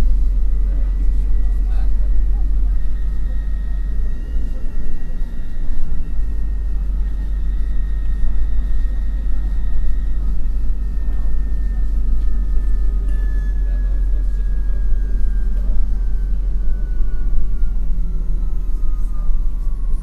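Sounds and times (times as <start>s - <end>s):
bus engine rumble: 0.0s - 20.0s
thin high whine: 0.0s - 20.0s.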